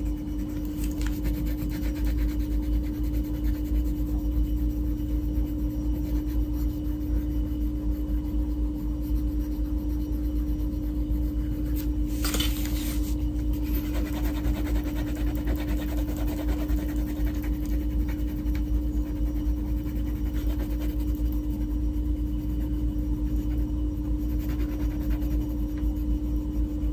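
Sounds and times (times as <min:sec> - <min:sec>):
crayon scratching on paper: 0:00.0 - 0:26.2
steady low hum: 0:00.0 - 0:26.9.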